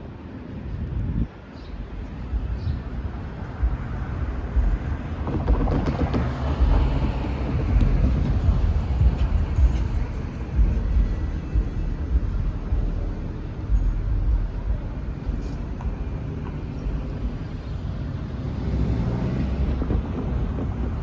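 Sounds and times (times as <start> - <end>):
light rail train rumble: 0.0 - 21.0
wind buffeting microphone: 0.4 - 1.5, 2.2 - 13.0, 15.6 - 21.0.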